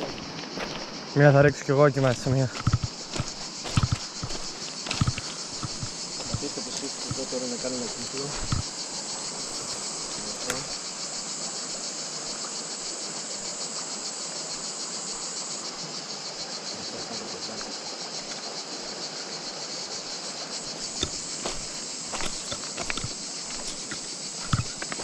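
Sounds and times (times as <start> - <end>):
cicadas chirring: 0.0 - 25.0.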